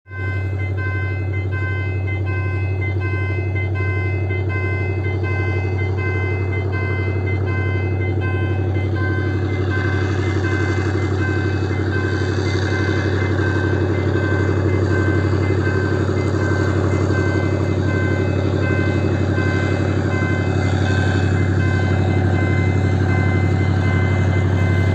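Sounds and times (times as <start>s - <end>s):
locomotive engine running hard: 0.1s - 24.9s
thin beeping tone: 0.1s - 24.9s.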